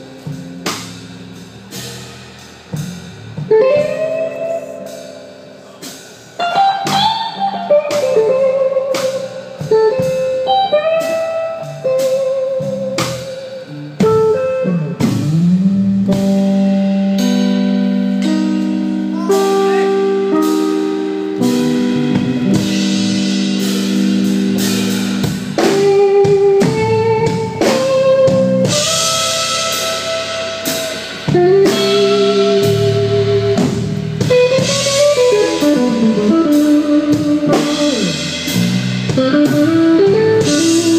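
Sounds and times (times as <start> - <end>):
drum kit: 0.0 - 40.9
electric guitar blues solo: 3.4 - 40.9.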